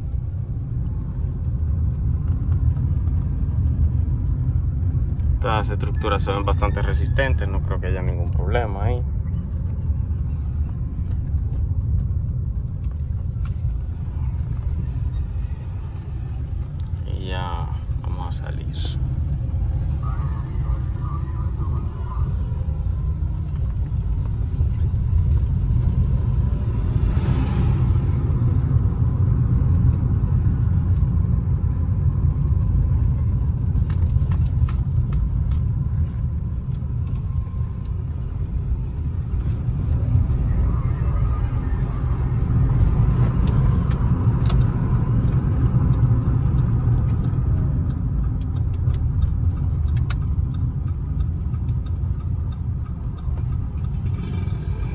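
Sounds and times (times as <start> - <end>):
car engine and tyres rumbling: 0.0 - 54.9.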